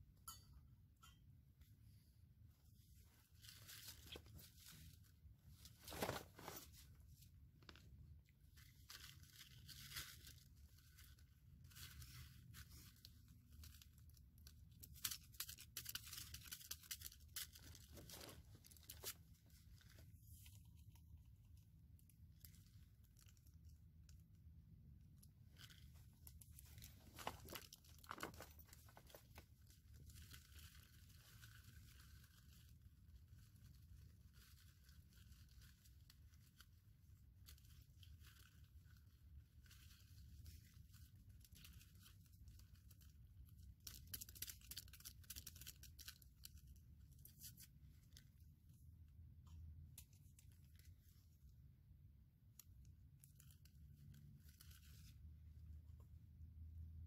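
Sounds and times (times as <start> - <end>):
rustling and crinkling by hand: 0.1 - 57.0.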